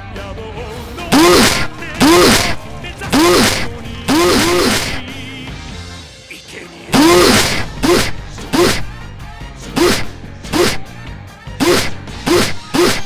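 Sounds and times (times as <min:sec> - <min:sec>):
music: 0:00.0 - 0:04.1, 0:05.0 - 0:07.0, 0:07.7 - 0:13.0.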